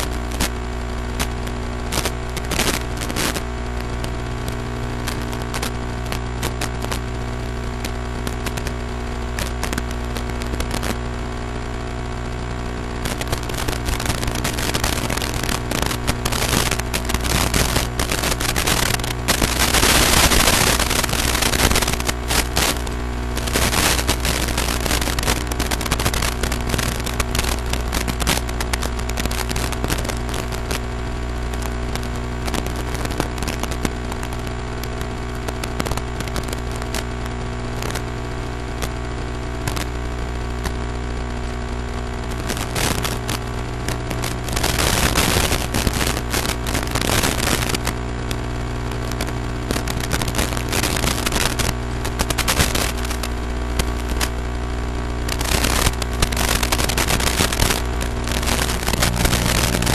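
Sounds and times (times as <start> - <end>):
crackling static: 0.0 - 59.9
electrical hum: 0.0 - 59.9.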